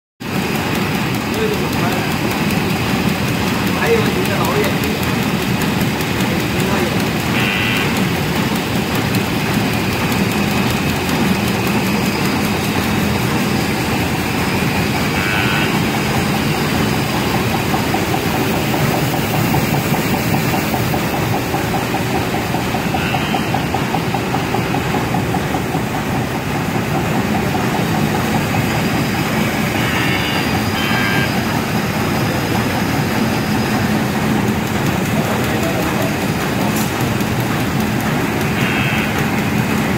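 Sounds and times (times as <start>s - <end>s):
die-cutting machine stamping: 0.2s - 39.9s.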